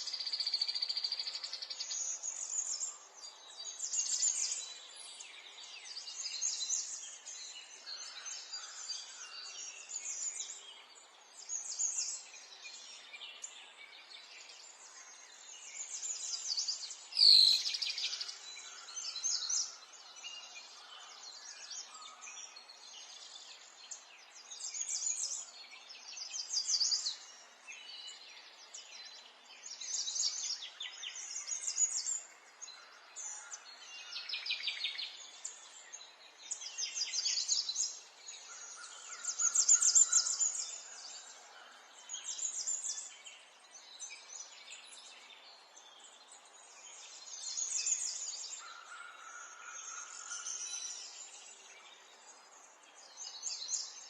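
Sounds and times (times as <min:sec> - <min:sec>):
faint outdoor background: 0:00.0 - 0:54.0
songbirds chirping and singing: 0:00.0 - 0:54.0.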